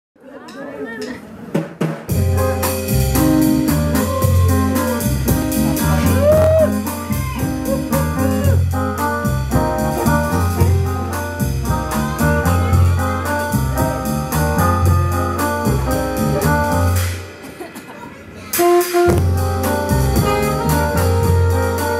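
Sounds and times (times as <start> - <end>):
drum kit beat: 1.5 - 17.8, 18.5 - 21.9
saxophone: 2.1 - 8.9, 9.5 - 17.1, 18.5 - 21.9
bass guitar: 2.1 - 17.4, 18.6 - 21.9
keyboard: 2.1 - 21.9.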